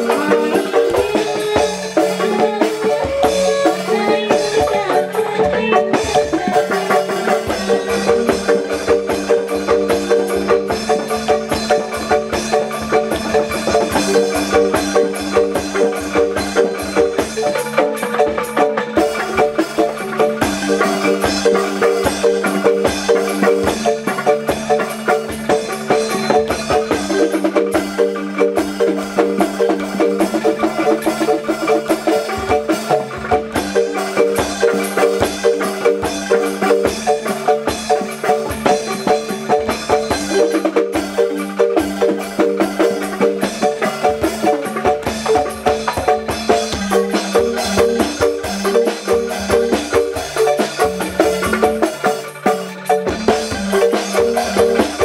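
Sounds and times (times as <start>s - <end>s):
bamboo tubes ringing melody: 0.0s - 55.0s
drums: 0.0s - 55.0s.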